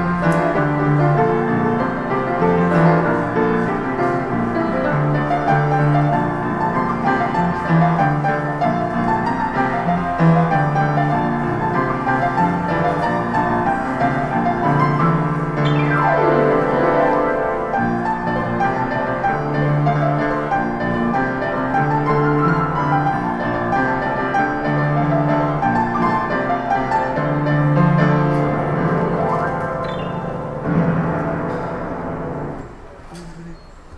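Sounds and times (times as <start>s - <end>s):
piano playing: 0.0s - 33.2s.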